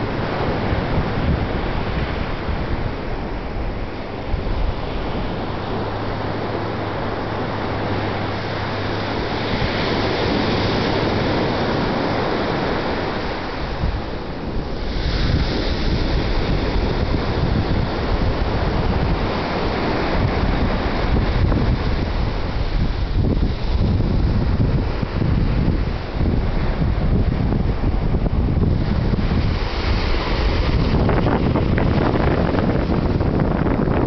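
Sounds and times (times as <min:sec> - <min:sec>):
ocean surf breaking: 0:00.0 - 0:34.0
wind buffeting microphone: 0:00.0 - 0:34.0.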